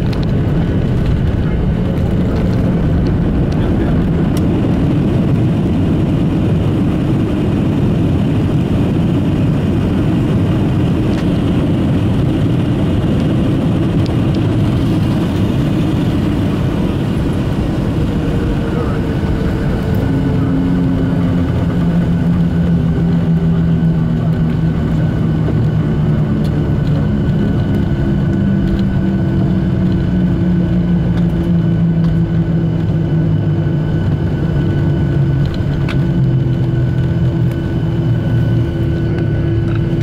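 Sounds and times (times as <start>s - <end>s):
airplane cabin rumble: 0.0s - 40.0s
jet engines low hum: 0.0s - 40.0s.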